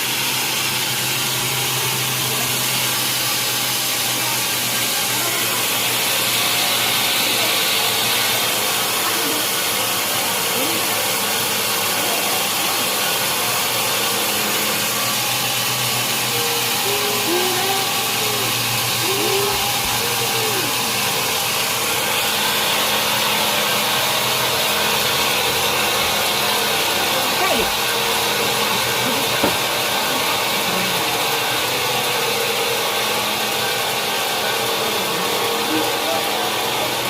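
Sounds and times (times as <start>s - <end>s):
sawmill machinery running: 0.0s - 37.0s.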